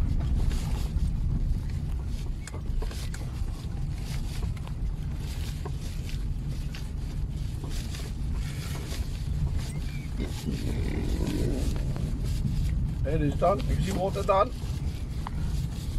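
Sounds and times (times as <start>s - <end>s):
car engine and tyres rumbling: 0.0s - 15.9s.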